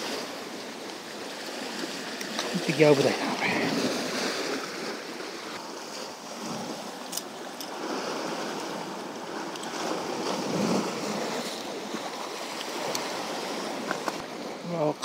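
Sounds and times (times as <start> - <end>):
sea surf washing against rocks: 0.0 - 15.0.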